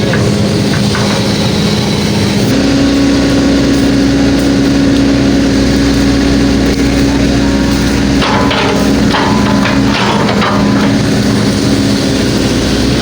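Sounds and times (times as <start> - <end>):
excavator diesel engine digging: 0.0 - 13.0.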